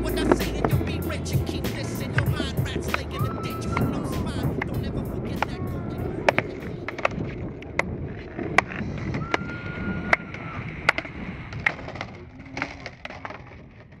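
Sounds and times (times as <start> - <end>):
skateboard decks clacking on ground: 0.0 - 14.0
skateboard wheels rolling on concrete: 0.0 - 14.0.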